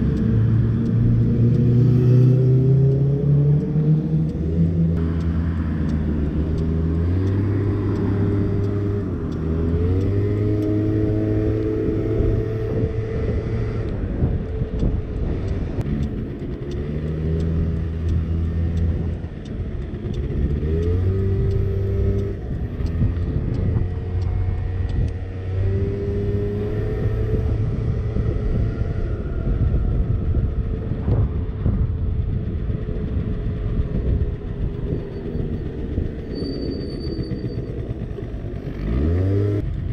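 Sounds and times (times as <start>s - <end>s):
scooter engine accelerating: 0.0s - 39.9s.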